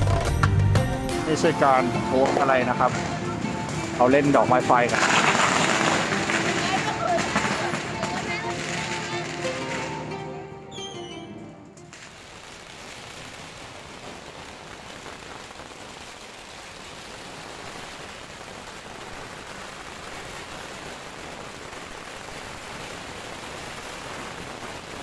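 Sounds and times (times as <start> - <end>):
firecrackers crackling: 0.0 - 10.5, 11.6 - 25.0.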